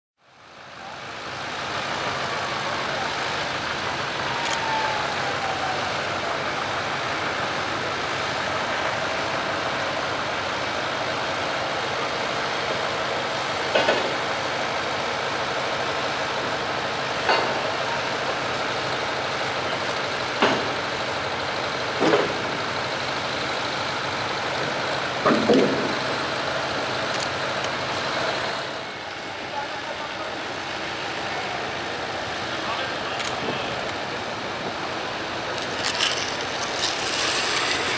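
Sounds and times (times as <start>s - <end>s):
engine running: 0.2s - 37.9s.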